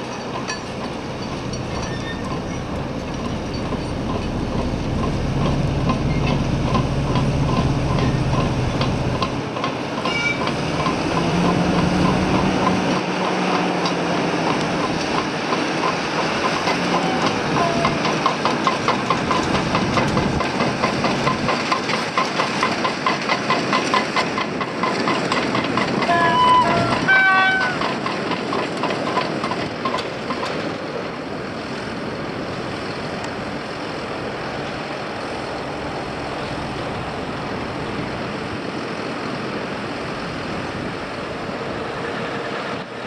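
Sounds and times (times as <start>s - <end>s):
train rumbling on rails: 0.0s - 43.0s
wheels clicking over rail joints: 0.0s - 43.0s.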